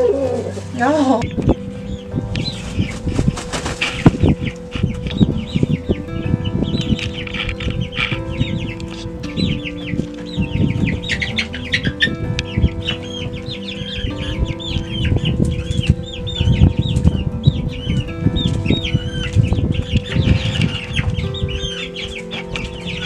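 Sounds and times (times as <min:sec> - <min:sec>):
chicks peeping and cheeping: 0:00.0 - 0:23.0.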